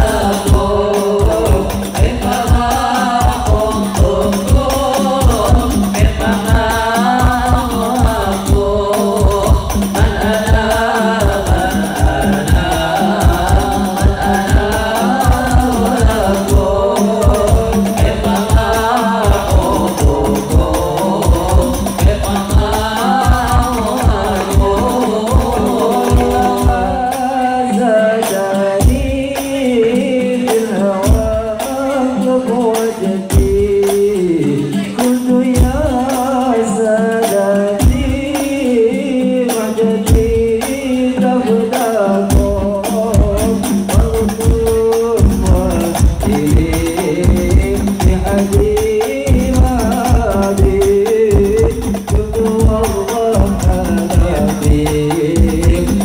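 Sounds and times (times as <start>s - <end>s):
frame drums and bass drum beating: 0.0s - 56.0s
men singing into microphones: 0.0s - 56.0s.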